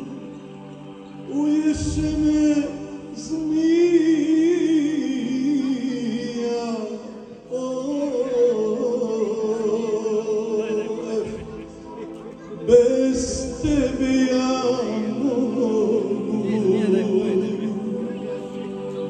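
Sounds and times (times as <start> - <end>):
man singing folk song: 1.3 - 11.7, 12.6 - 18.6.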